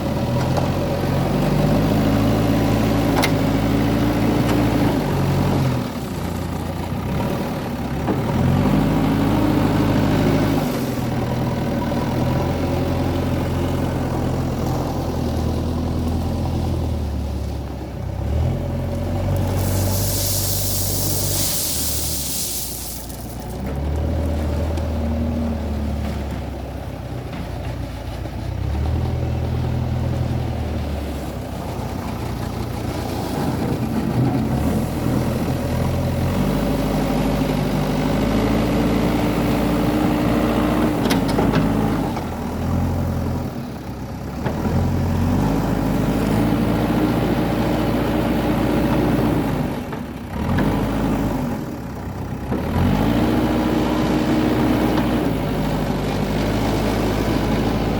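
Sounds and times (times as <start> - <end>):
diesel engine revving: 0.0 - 26.8, 28.5 - 57.9.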